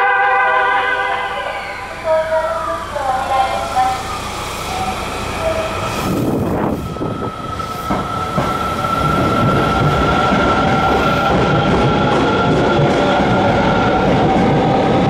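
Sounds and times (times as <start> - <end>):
subway train squealing: 0.0 - 15.0
train rumble: 0.0 - 15.0.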